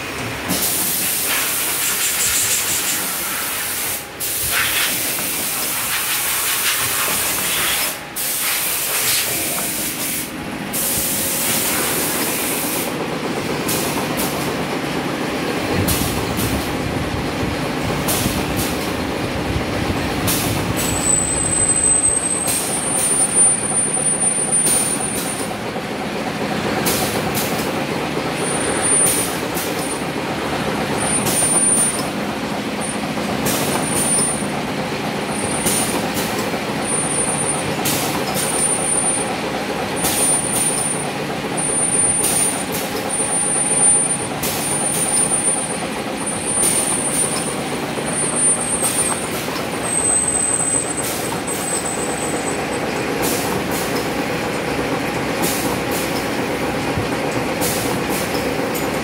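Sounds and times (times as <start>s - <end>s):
machinery hiss and clatter: 0.0s - 59.0s.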